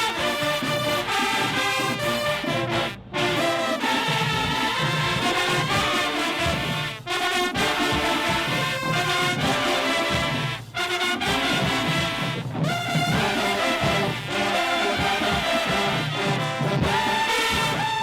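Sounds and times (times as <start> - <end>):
brass instruments playing: 0.0 - 18.0
drum line: 0.0 - 18.0.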